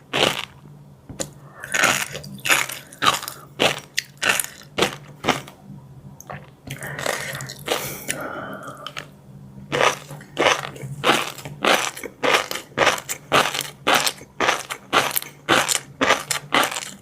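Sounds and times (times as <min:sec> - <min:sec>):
chewing crunchy food: 0:00.0 - 0:00.6, 0:01.2 - 0:05.6, 0:06.2 - 0:17.0.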